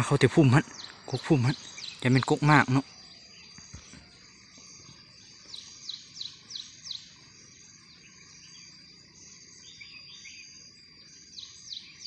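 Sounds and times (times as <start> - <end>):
high insect whine: 0.0 - 12.0.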